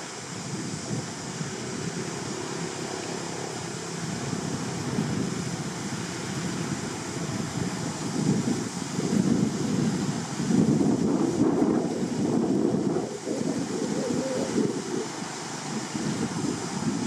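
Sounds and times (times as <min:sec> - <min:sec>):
wind rushing across microphone: 0:00.0 - 0:17.0.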